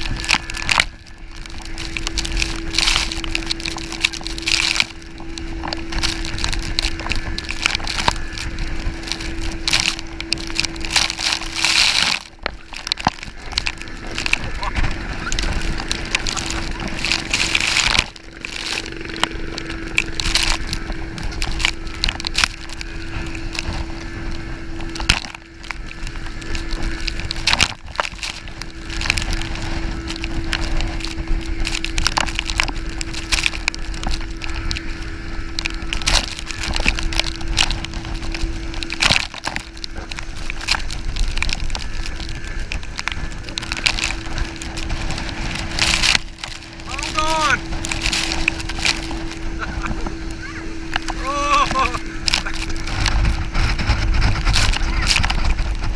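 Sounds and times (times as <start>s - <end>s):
boat slapping waves: 0.0s - 55.9s
rushing spray: 0.0s - 55.9s
steady hum: 0.0s - 55.9s
wind buffeting camera: 0.0s - 55.9s.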